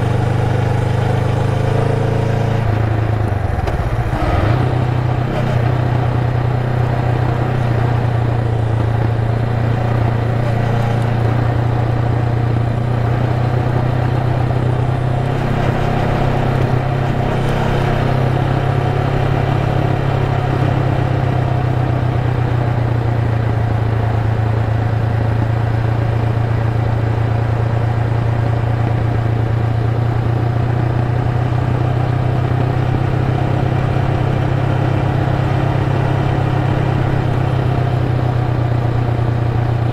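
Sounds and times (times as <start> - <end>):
motorcycle engine cruising: 0.0 - 39.9
road noise: 0.0 - 39.9.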